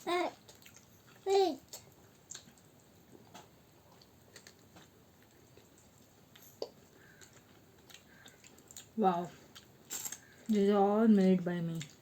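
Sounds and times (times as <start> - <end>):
person chewing: 0.3 - 10.6.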